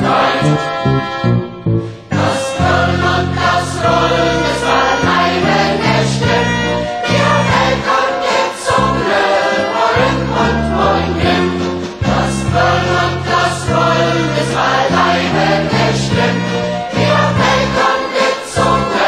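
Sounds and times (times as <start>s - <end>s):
choir singing: 0.0s - 1.4s, 2.1s - 19.0s.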